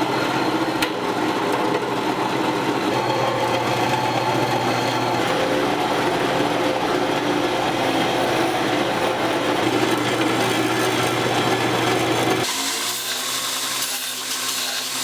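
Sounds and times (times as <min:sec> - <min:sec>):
power tool grinding steel: 0:01.4 - 0:15.0.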